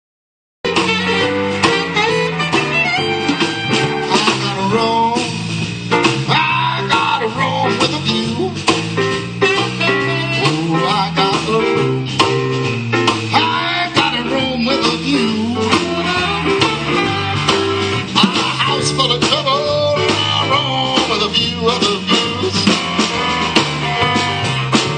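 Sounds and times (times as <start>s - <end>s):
live band playing: 0.6s - 24.9s
steady bass line: 0.6s - 24.9s
guitar: 0.7s - 24.9s.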